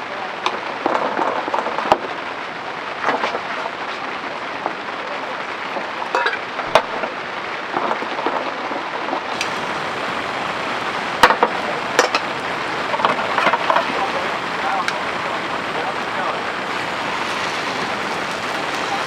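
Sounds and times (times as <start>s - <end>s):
heavy rain on a tarp: 0.0s - 19.0s.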